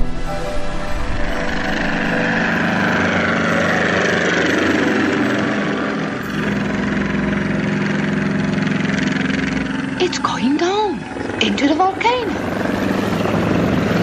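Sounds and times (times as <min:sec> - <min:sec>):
helicopter flying overhead: 0:00.0 - 0:14.0.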